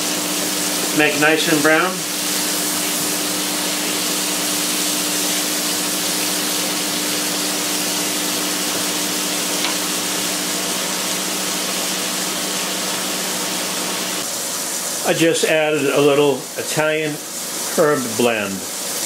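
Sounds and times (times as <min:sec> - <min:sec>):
onions sizzling in a skillet: 0:00.0 - 0:19.0.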